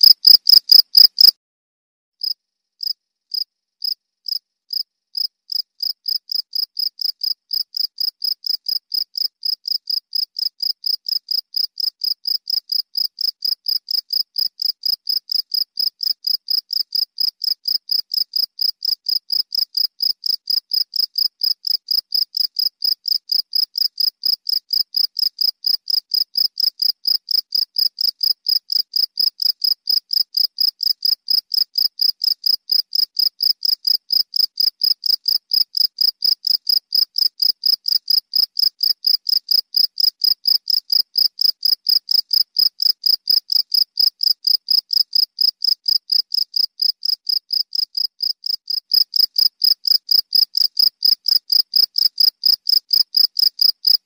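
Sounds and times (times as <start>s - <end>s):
cricket chirping: 0.0s - 1.3s, 2.2s - 54.0s.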